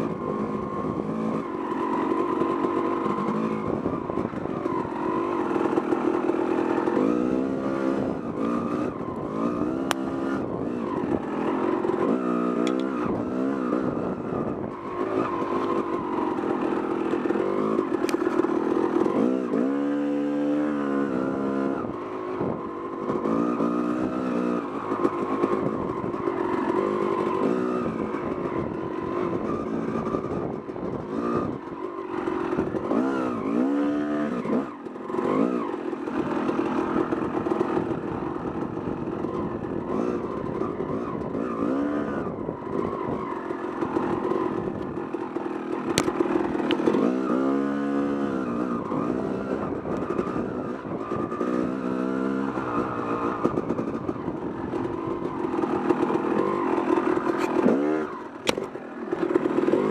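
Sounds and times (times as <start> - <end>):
dirt bike engine revving: 0.0 - 21.9, 23.1 - 59.9.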